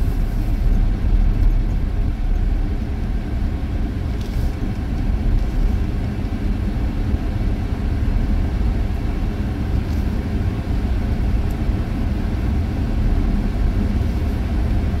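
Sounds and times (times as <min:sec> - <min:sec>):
vehicle driving on unpaved road: 0:00.0 - 0:15.0.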